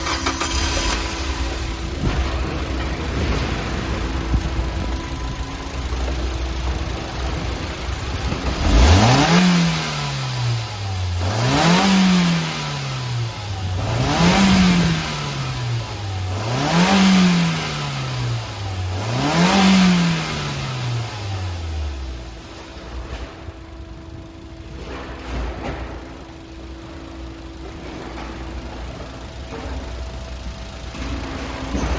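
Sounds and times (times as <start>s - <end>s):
truck engine idling and revving: 0.0s - 31.9s.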